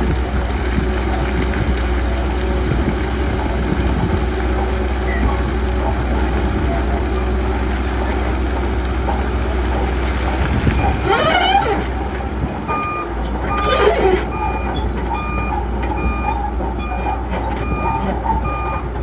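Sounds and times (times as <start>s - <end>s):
bulldozer diesel engine droning: 0.0s - 19.0s.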